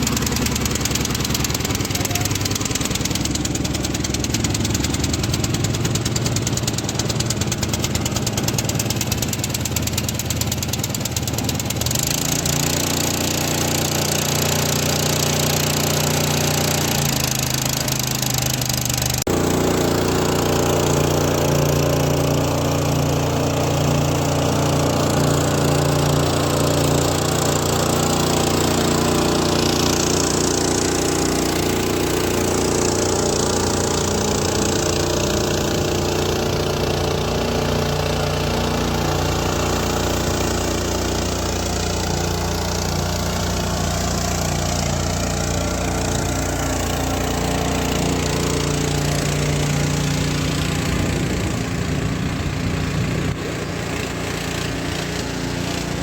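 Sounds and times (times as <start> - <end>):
small engine driving water pump: 0.0 - 56.0.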